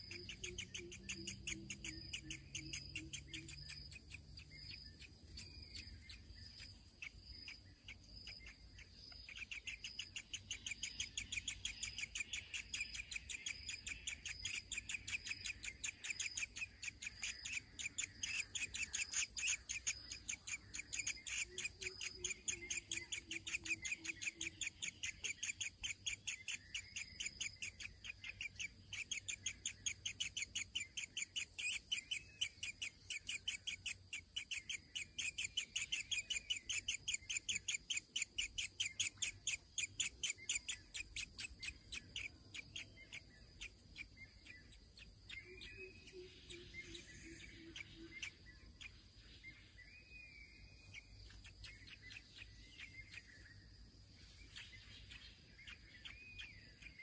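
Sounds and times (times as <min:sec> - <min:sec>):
nestling begging chirps: 0:00.0 - 0:57.0
soft bird calls: 0:00.0 - 0:57.0.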